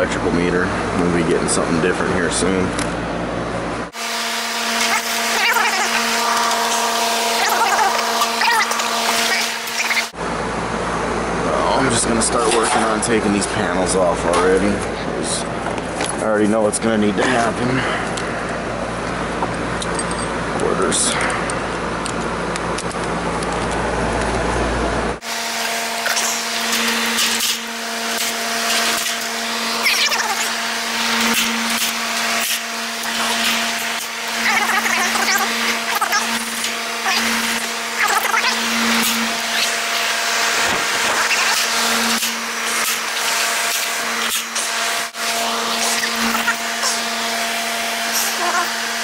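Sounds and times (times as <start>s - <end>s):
air conditioner motor hum: 0.0s - 49.0s
fan whirring: 0.0s - 49.0s.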